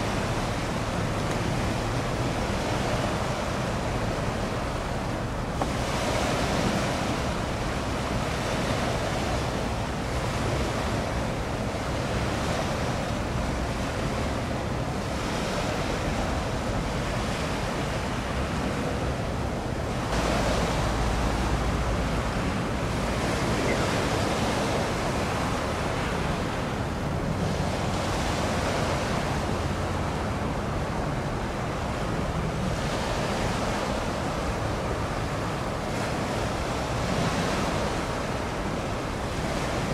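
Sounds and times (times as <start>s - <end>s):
sea water washing in swells: 0.0s - 39.9s.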